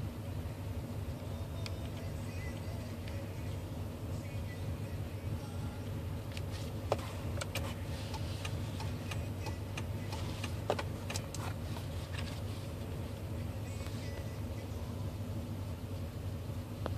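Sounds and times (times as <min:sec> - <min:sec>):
engine idling hum: 0:00.0 - 0:16.9
turn signal ticking: 0:00.9 - 0:16.9.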